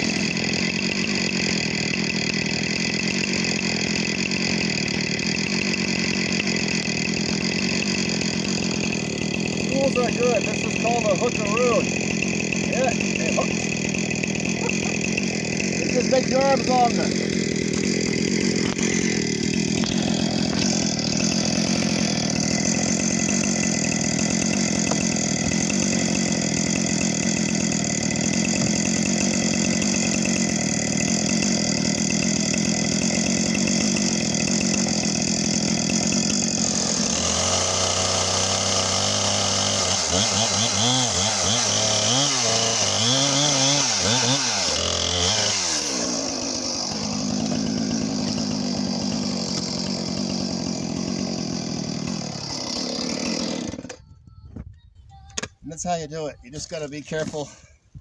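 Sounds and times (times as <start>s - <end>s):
chainsaw cutting wood: 0.0s - 54.2s, 55.2s - 57.8s.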